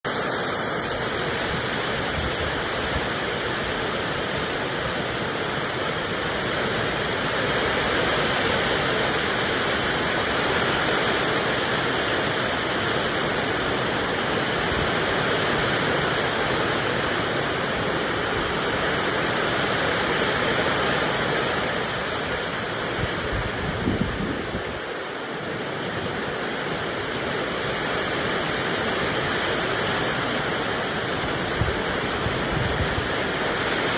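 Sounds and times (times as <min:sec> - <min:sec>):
heavy rain and hail: 0:00.1 - 0:33.9.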